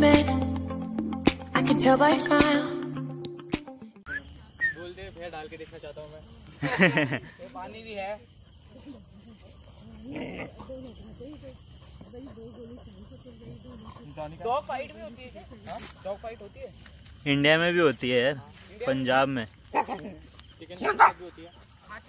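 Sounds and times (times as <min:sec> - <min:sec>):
high-pitched insect chorus: 0:04.1 - 0:22.0.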